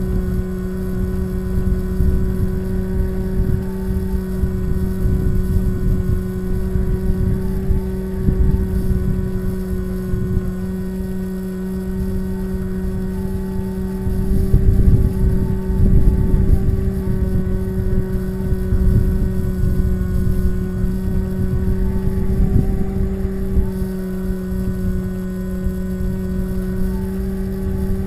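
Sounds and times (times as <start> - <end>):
electric motor and propeller humming: 0.0 - 28.0
wind buffeting microphone: 0.0 - 28.0.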